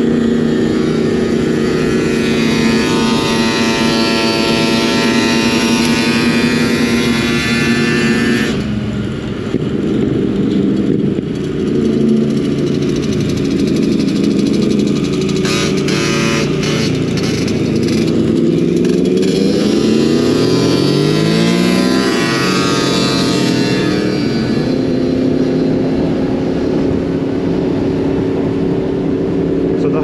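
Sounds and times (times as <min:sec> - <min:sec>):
motorbike engine running: 0:00.0 - 0:30.0
rushing wind noise: 0:00.0 - 0:30.0.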